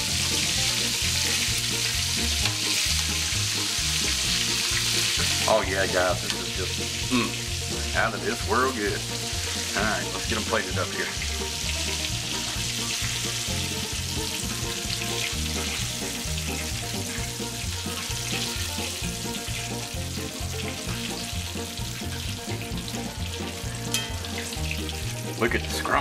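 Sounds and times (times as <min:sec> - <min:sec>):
background music: 0:00.0 - 0:26.0
chicken sizzling in hot oil: 0:00.0 - 0:26.0.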